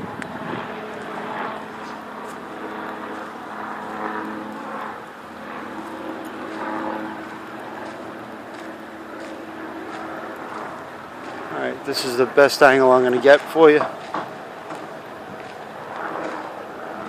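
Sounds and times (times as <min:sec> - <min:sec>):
road hum: 0:00.0 - 0:17.0.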